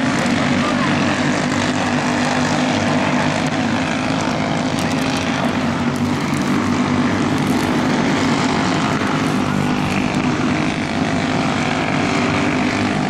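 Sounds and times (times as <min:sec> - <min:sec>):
kart engine buzzing: 0:00.0 - 0:13.0.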